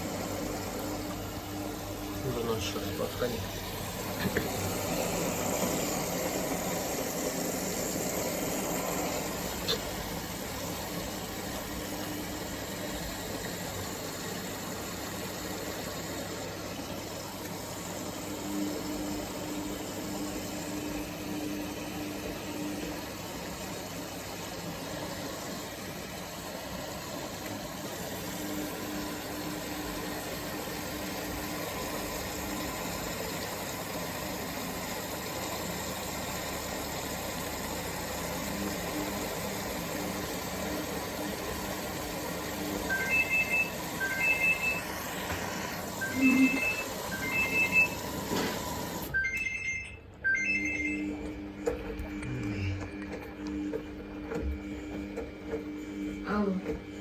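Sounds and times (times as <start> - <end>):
motor humming tone: 0.0 - 57.0
washing machine hum: 0.0 - 57.0.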